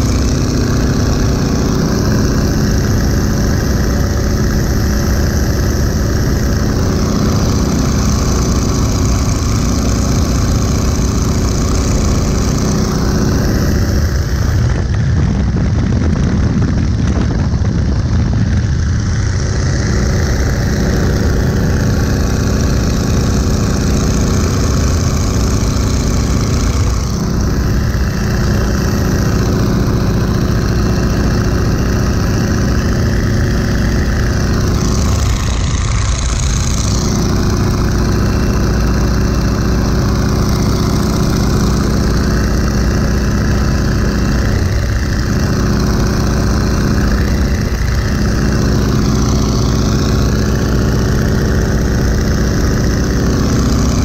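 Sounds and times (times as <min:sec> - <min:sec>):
biplane radial engine running: 0:00.0 - 0:54.0
propeller and wind rushing: 0:00.0 - 0:54.0.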